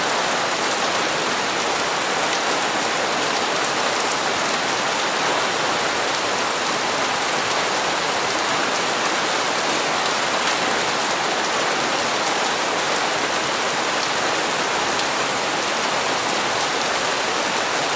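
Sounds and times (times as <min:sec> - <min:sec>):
rain on hard surfaces: 0:00.0 - 0:17.9.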